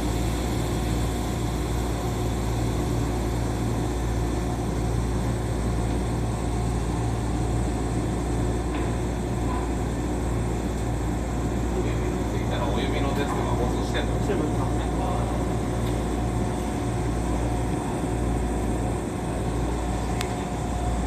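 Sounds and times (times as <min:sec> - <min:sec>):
train interior hum and rumble: 0:00.0 - 0:21.0.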